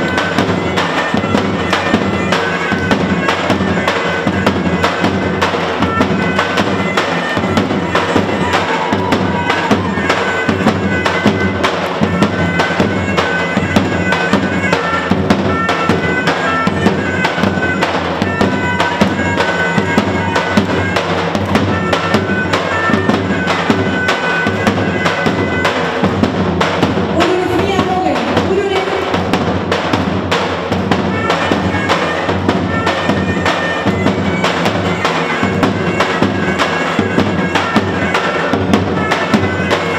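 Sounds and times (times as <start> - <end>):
shrill reed wind instrument: 0.0 - 29.3, 30.5 - 39.9
large drums beating fast: 0.0 - 39.9.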